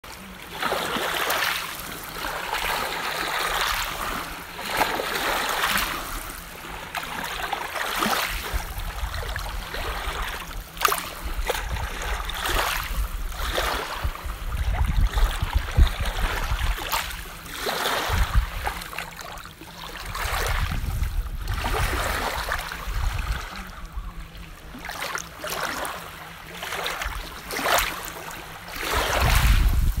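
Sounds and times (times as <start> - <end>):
rushing splashing water: 0.4 - 23.5, 24.7 - 30.0.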